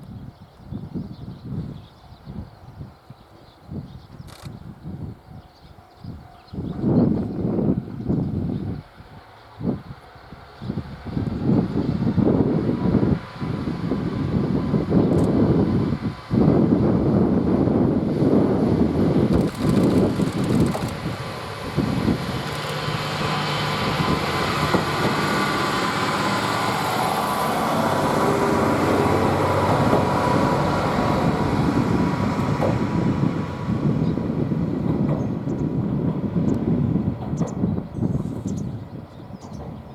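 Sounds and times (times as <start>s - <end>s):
diesel railcar engine droning: 4.6s - 39.9s.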